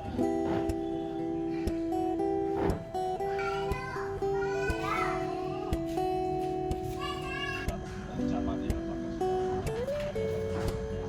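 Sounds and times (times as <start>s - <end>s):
fingerstyle acoustic guitar: 0.0s - 11.0s.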